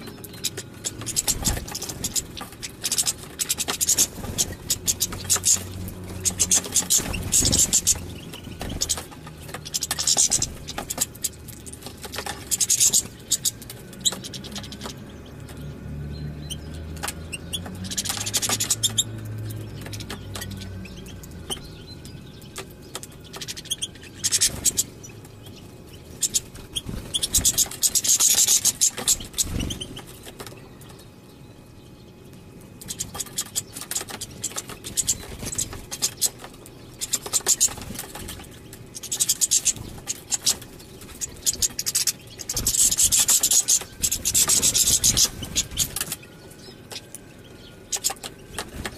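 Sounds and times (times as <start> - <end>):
finches twittering: 0.0 - 48.9.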